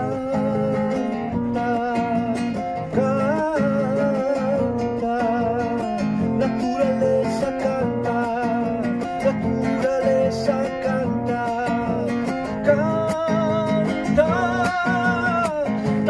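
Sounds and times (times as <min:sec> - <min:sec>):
man singing: 0:00.0 - 0:16.0
strummed acoustic guitar: 0:00.0 - 0:16.0.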